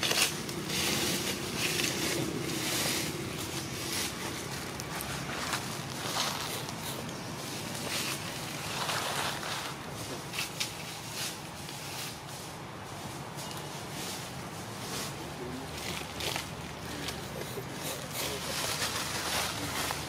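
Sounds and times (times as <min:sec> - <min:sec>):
rustling dry leaves: 0:00.0 - 0:20.0
steady hiss: 0:00.0 - 0:20.0.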